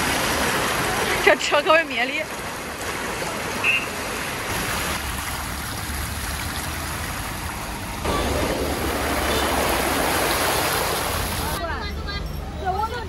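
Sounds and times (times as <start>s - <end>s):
floodwater rushing off scooter wheels: 0.0s - 11.6s.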